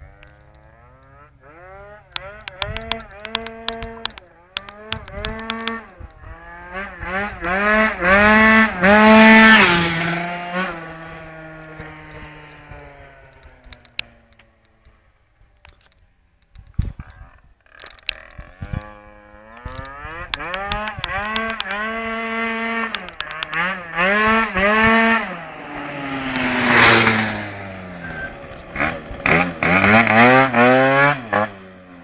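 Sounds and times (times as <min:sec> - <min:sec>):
scooter engine revving past: 0:00.0 - 0:14.3, 0:18.2 - 0:32.0.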